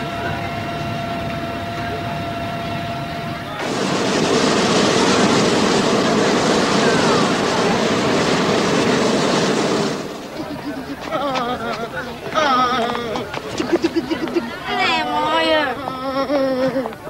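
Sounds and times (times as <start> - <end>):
jet turbine whine: 0.0 - 15.9
propane burners roaring: 0.0 - 17.0.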